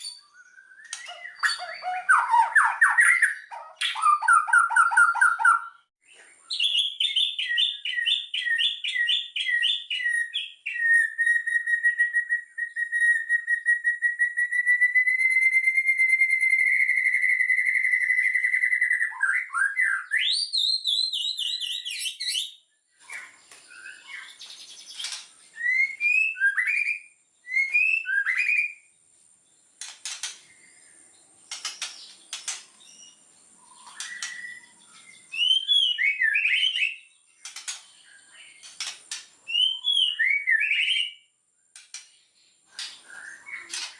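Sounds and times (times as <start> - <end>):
bird singing whistled notes: 0.0 - 29.6, 30.3 - 43.9.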